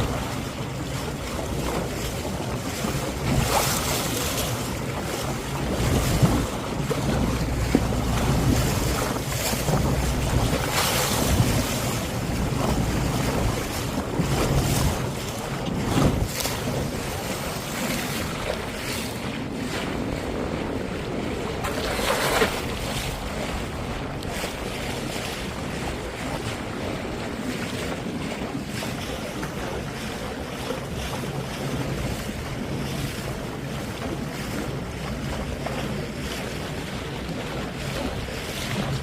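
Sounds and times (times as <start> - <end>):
sea water sloshing: 0.0 - 39.0
water splash: 0.0 - 39.0
wind buffeting microphone: 0.0 - 39.0.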